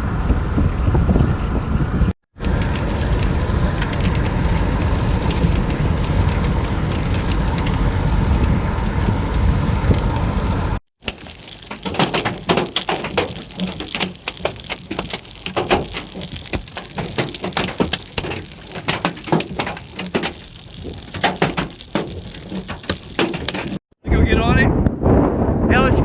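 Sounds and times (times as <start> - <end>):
hailstones striking a vehicle: 2.4 - 23.8.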